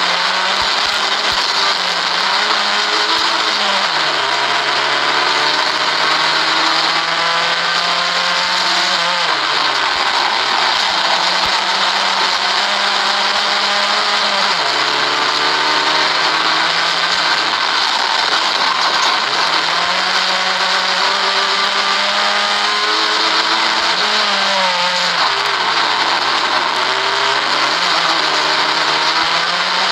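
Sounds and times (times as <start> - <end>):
rally car engine running hard: 0.0 - 29.9
road and tyre noise: 0.0 - 29.9.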